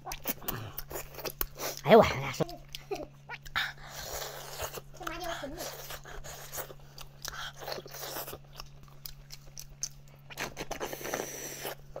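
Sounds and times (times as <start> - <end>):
wet biting and chewing: 0.0 - 12.0.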